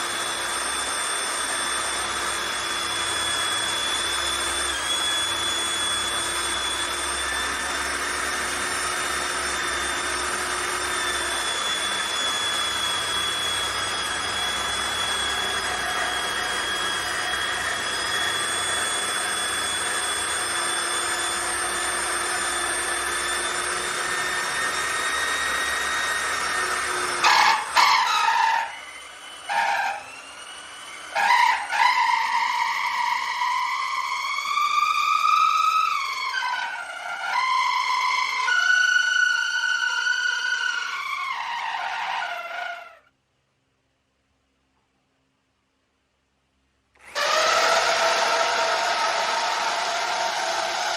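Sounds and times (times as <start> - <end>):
electric drill motor whining: 0.0 - 43.1, 46.9 - 50.9.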